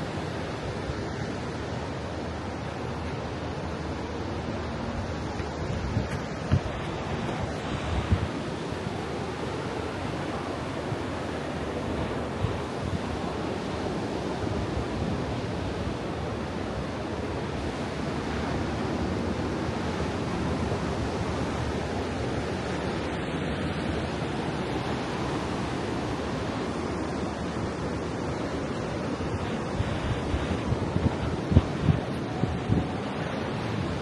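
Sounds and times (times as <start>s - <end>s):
waves rushing onto beach: 0.0s - 34.0s
wind on microphone: 4.3s - 34.0s.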